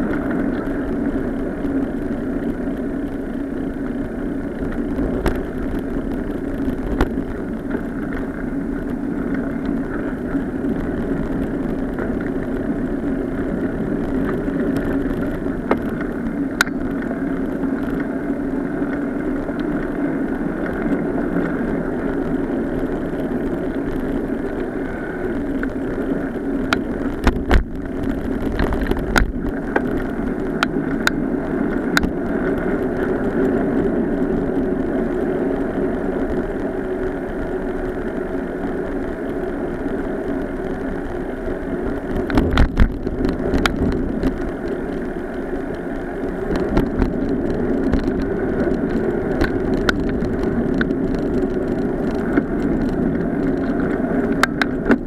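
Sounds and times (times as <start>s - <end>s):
bicycle tyres rolling on pavement: 0.0s - 55.0s.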